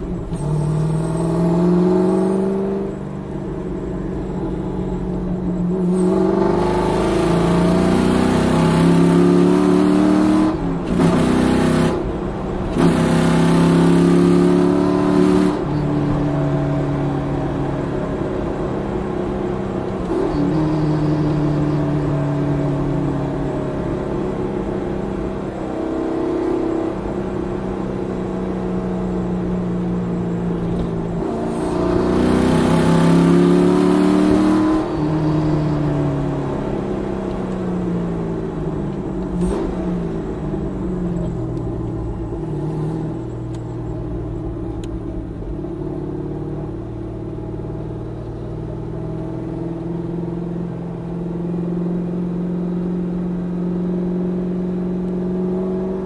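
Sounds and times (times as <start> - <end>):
car engine revving in cabin: 0.0 - 56.0.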